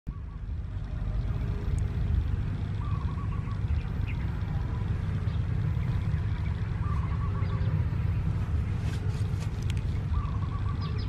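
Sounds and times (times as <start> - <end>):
bird trilling call: 0.1 - 11.0
low rumble: 0.1 - 11.0.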